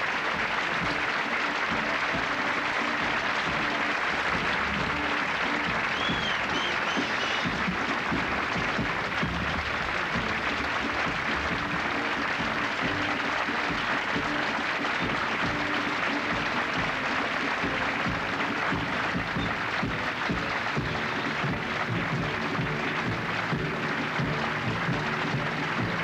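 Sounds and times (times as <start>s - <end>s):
audience applauding: 0.0s - 26.0s
faint orchestra playing: 0.0s - 26.0s.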